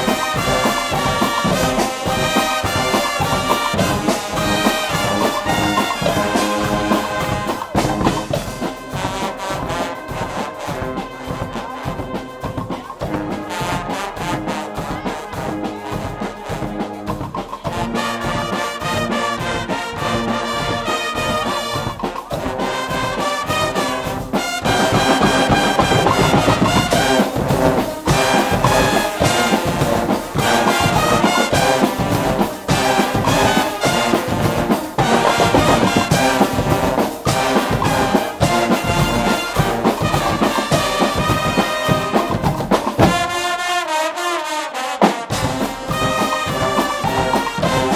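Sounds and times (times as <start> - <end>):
steady drum beat: 0.0 - 43.7, 45.0 - 47.9
brass band playing: 0.0 - 47.9.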